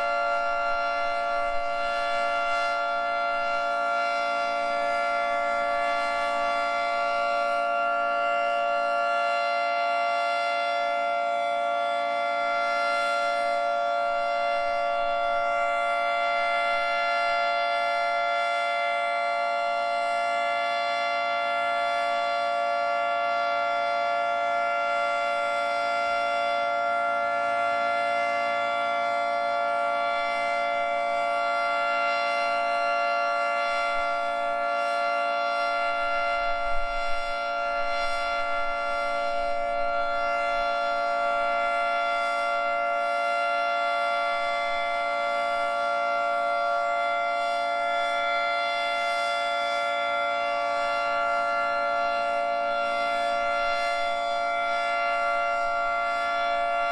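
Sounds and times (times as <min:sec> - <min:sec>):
dual-tone warning siren: 0:00.0 - 0:56.9.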